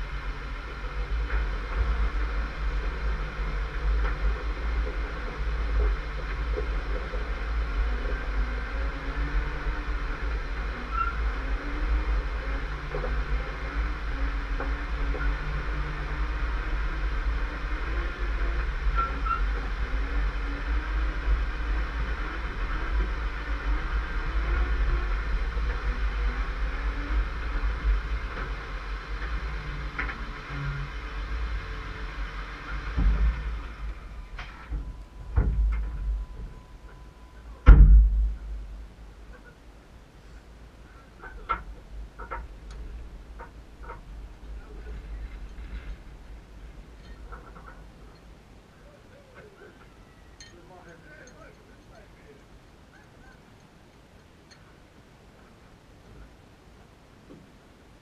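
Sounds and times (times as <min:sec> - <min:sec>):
heavy low rumble: 0:00.0 - 0:58.0
vehicle engine running under load: 0:00.0 - 0:58.0.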